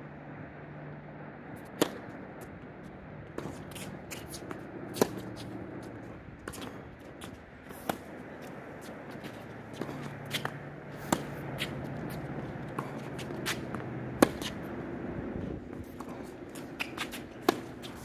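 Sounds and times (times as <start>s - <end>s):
tennis racket hitting ball: 1.6s - 2.2s, 3.3s - 18.0s
shoes scuffing on court: 1.6s - 15.0s, 15.7s - 18.0s.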